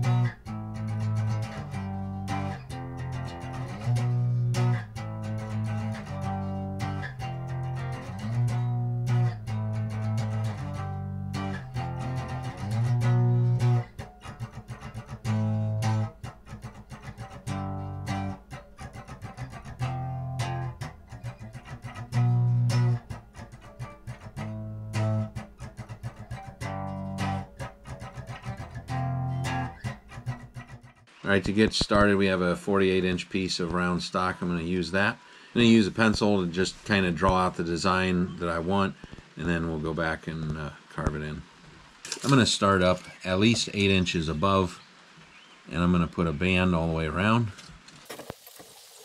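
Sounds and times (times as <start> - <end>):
bass guitar line: 0.0 - 41.5
instrumental guitar music: 0.0 - 47.4.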